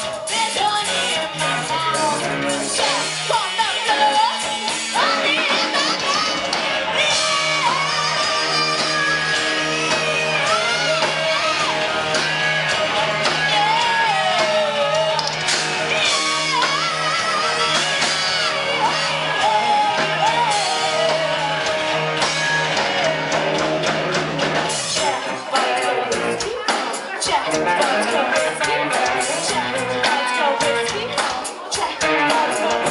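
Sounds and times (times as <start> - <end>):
woman singing lead: 0.0 - 24.0, 24.6 - 32.9
bass guitar: 0.0 - 32.9
drums: 0.0 - 32.9
electric guitars: 0.0 - 32.9.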